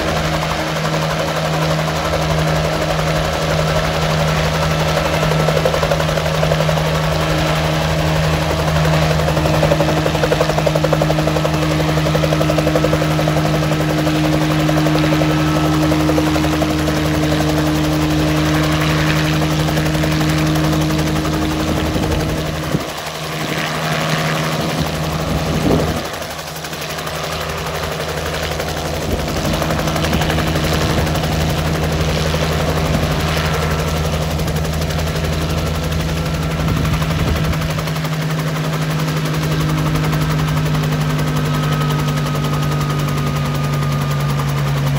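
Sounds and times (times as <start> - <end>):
helicopter rotor chopping: 0.0 - 44.9.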